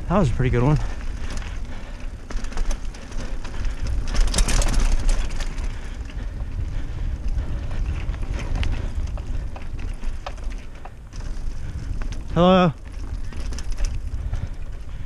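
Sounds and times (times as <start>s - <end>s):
bike rattles and clicks: 0.0s - 15.0s
bike tyres on dirt: 0.0s - 15.0s
wind rumble on microphone: 0.0s - 15.0s.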